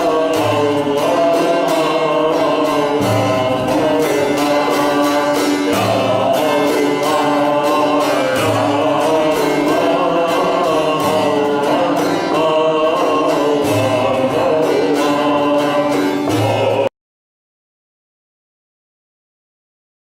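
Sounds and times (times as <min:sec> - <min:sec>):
strummed string instrument: 0:00.0 - 0:16.9
voices singing: 0:00.0 - 0:16.9.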